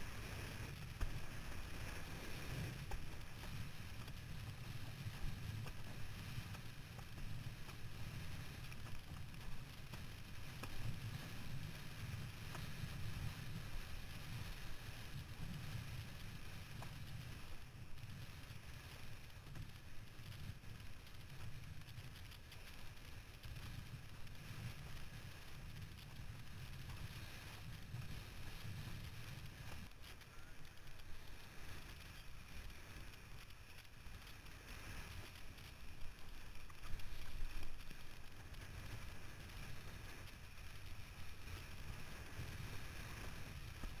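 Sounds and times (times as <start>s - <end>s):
wind rumbling on microphone: 0.0s - 44.0s.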